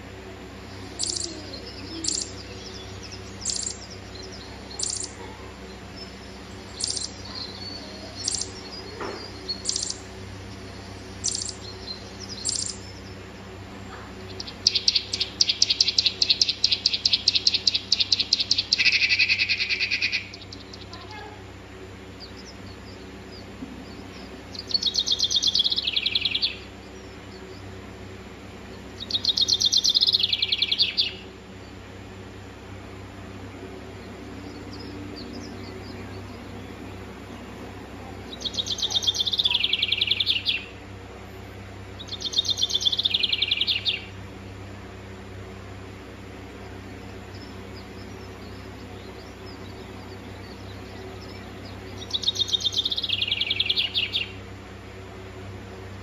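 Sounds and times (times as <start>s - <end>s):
bird chirps: 0.6s - 21.4s, 22.0s - 27.8s, 28.6s - 31.8s, 33.9s - 40.8s, 41.9s - 44.2s, 46.5s - 54.4s
bird chattering: 0.6s - 27.9s, 28.6s - 31.3s, 33.8s - 40.8s, 42.0s - 44.2s, 46.5s - 54.4s.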